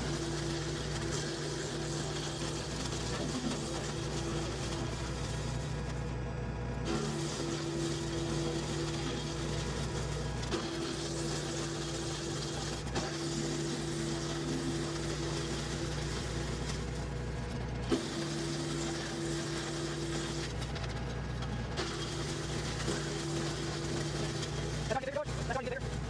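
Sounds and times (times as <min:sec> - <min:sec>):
wood chipper humming: 0:00.0 - 0:26.0.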